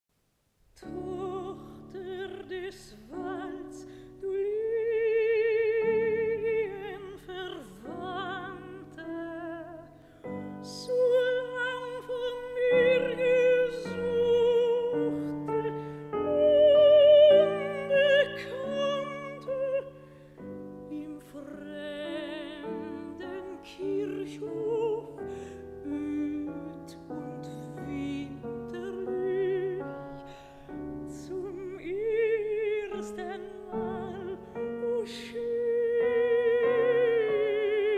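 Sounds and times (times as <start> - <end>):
piano accompaniment: 0.8 - 37.9
soprano singing with vibrato: 0.8 - 37.9.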